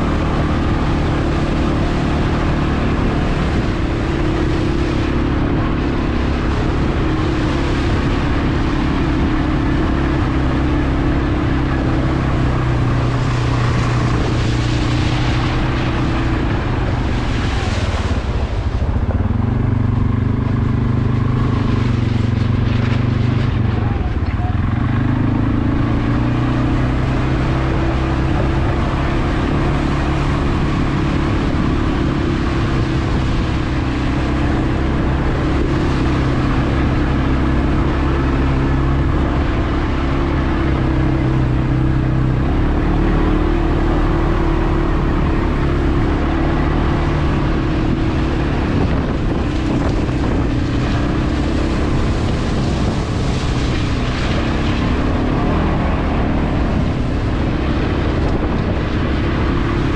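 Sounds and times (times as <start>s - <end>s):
atv engine running: 0.0s - 59.9s
steady rush of noise: 0.0s - 59.9s.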